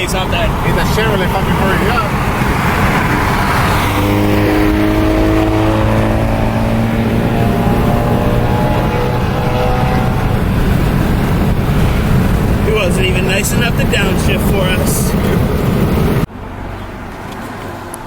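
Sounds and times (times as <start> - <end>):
car engine droning: 0.0 - 18.0
road and wind noise: 0.0 - 18.0.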